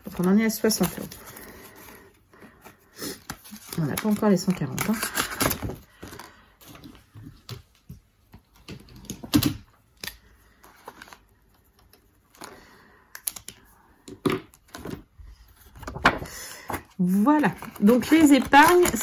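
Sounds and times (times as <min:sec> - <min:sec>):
paper and plastic rustling: 0:00.0 - 0:07.8, 0:10.4 - 0:13.5, 0:14.6 - 0:19.0.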